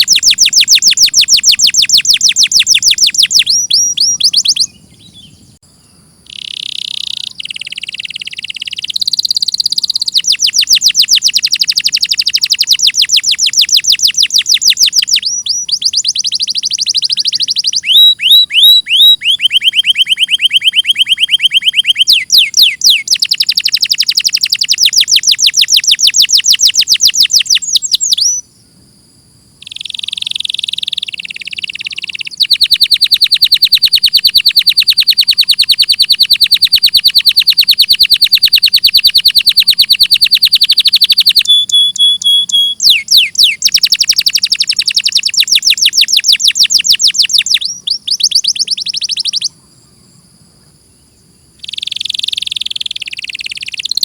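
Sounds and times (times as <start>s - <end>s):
canary singing trills: 0.0s - 28.6s, 29.6s - 54.0s.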